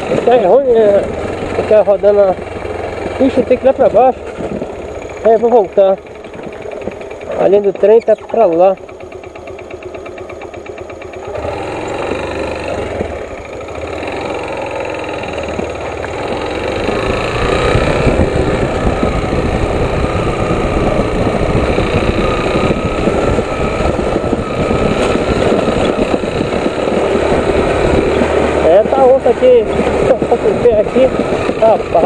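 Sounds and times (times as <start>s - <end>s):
motorcycle engine: 0.0s - 32.0s
rough road rumble: 0.0s - 32.0s.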